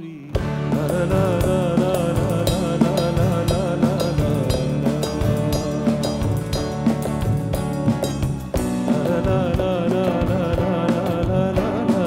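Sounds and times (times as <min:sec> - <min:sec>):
person singing: 0:00.0 - 0:06.9, 0:08.8 - 0:12.0
live band playing: 0:00.3 - 0:12.0
drum kit beat: 0:00.4 - 0:12.0.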